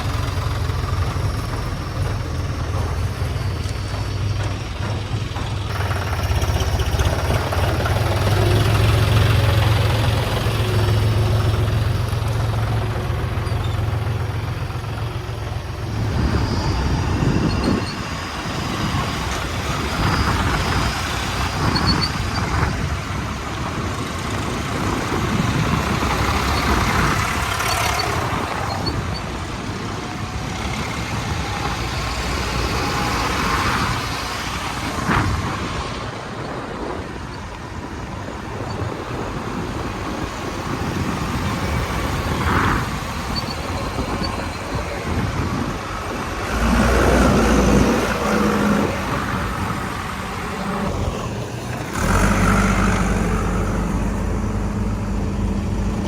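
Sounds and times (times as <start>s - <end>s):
backhoe diesel engine droning: 0.0s - 56.0s.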